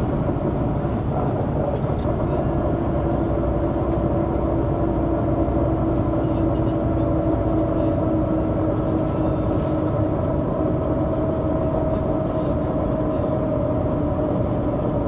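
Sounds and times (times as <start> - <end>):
bus engine droning: 0.0 - 15.0.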